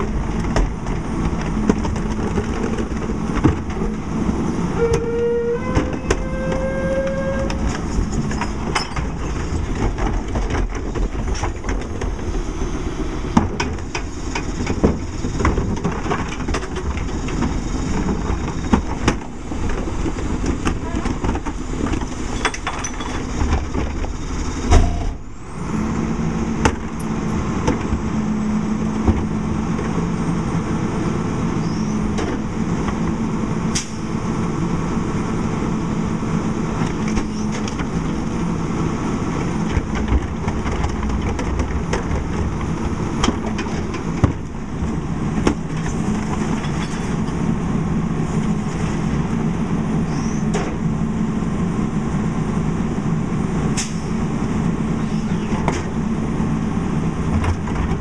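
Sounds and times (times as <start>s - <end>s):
truck engine running under load: 0.0s - 58.0s.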